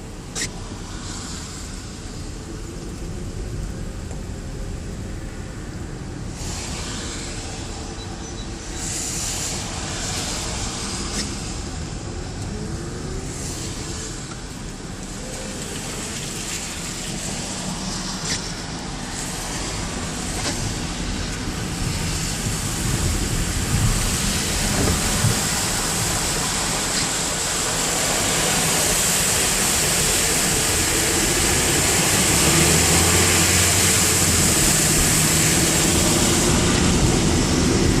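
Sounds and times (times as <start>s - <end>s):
tyres hissing through water: 0.1s - 2.8s, 6.0s - 38.0s.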